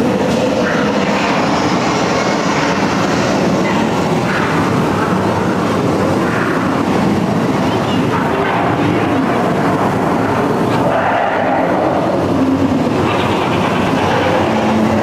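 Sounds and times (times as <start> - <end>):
rumbling and hissing effects: 0.0 - 15.0.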